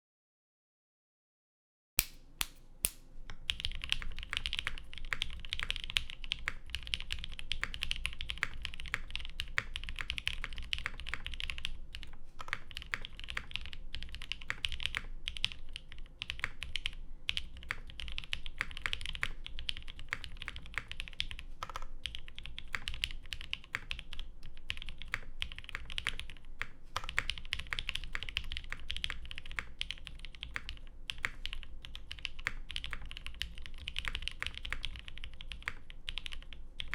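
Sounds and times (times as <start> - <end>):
mechanical keyboard typing: 3.4 - 36.9.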